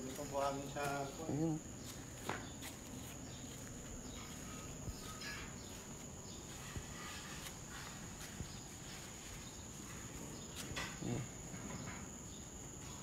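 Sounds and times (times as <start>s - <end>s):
faint scuffs: 0.0s - 11.2s
insect trill: 0.0s - 13.0s.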